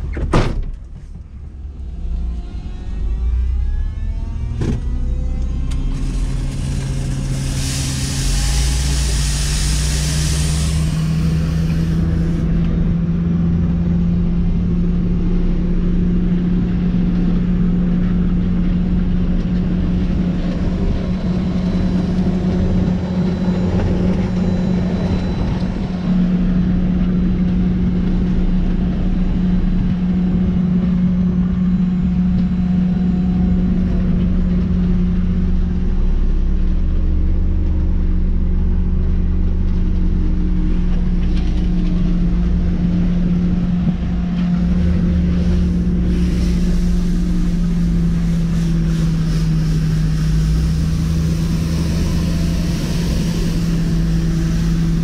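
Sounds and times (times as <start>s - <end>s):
street sweeper truck running: 1.0s - 55.0s.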